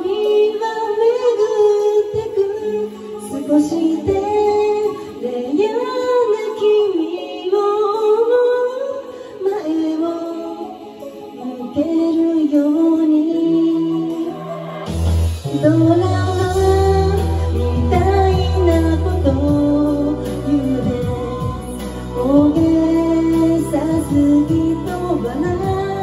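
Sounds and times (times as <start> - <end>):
woman singing into a microphone: 0.0 - 26.0.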